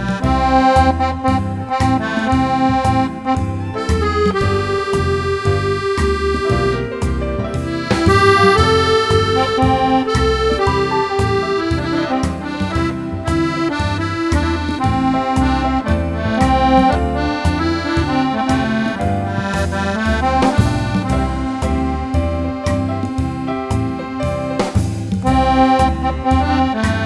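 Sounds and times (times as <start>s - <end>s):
accordion melody: 0.0s - 27.0s
bass and chord beat: 0.0s - 27.0s.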